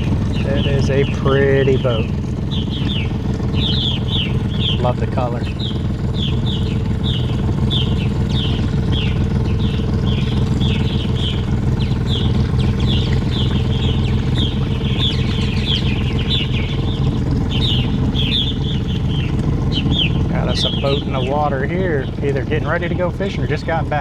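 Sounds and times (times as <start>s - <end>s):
boat engine humming: 0.0s - 24.0s
high chirps: 1.6s - 21.4s.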